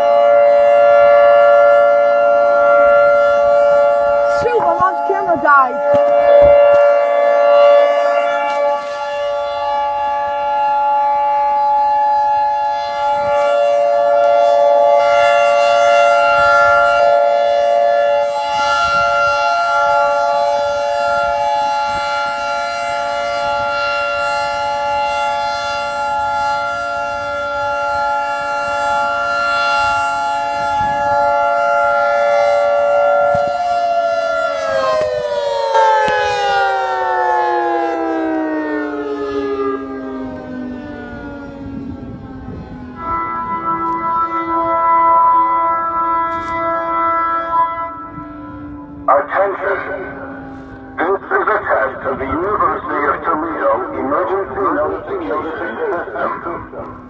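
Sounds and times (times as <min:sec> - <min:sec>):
warning siren: 0:00.0 - 0:57.0.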